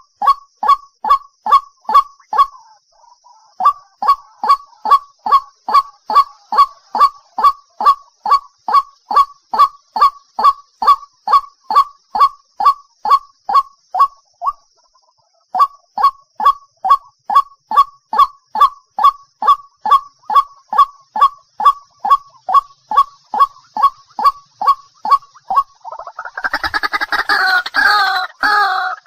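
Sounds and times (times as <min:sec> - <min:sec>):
waterhen calling: 0:00.0 - 0:14.6, 0:17.7 - 0:29.0.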